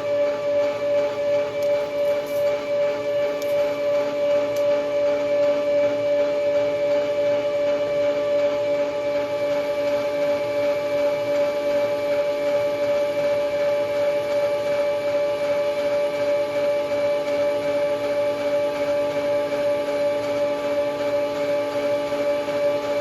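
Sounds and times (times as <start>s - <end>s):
metal lathe whining: 0.0s - 23.0s.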